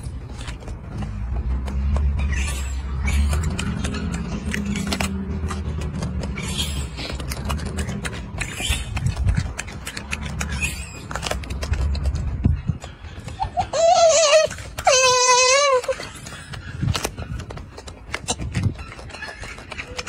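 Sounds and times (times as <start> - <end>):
monkey crunching apple: 0.0 - 20.0.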